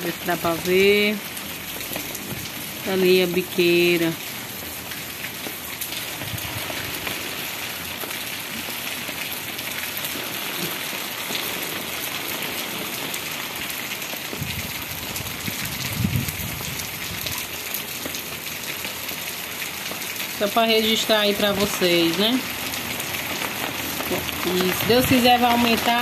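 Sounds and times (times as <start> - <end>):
rain on roofs and cobbles: 0.0 - 26.0.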